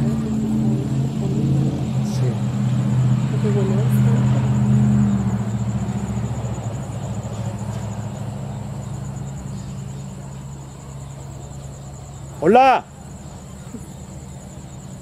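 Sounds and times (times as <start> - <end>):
crickets chirping: 0.0 - 15.0
vehicle engine humming: 0.0 - 15.0.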